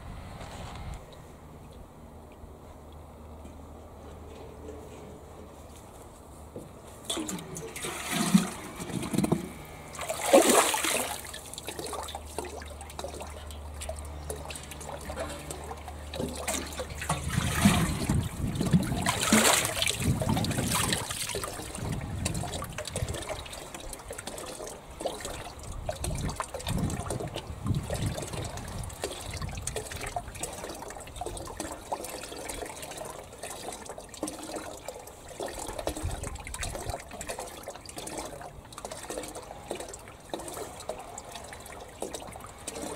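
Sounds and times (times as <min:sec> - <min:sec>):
water trickling and lapping: 0:05.8 - 0:42.9
watering can filling in water tank: 0:07.0 - 0:42.9.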